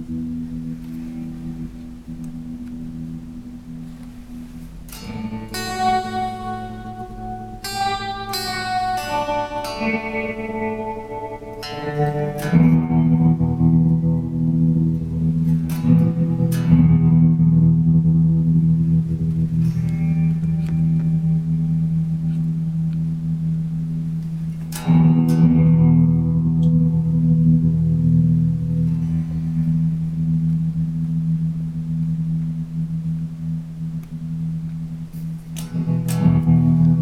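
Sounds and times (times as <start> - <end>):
electric guitar chords with tremolo: 0.0 - 37.0.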